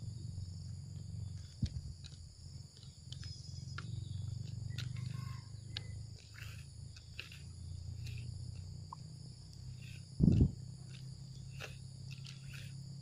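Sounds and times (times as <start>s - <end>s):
insects chirring: 0.0s - 13.0s
low steady rumble: 0.0s - 13.0s.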